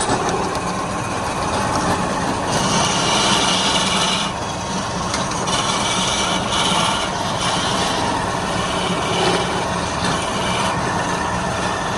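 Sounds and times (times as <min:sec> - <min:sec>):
wood lathe motor hum: 0:00.0 - 0:11.9.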